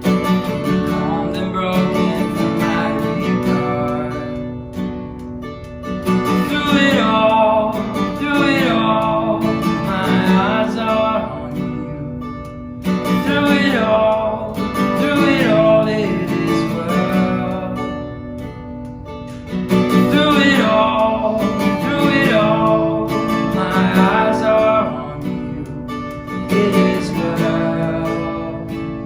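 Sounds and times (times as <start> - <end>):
strummed acoustic guitar: 0.0 - 29.0
worship band music: 0.0 - 29.0.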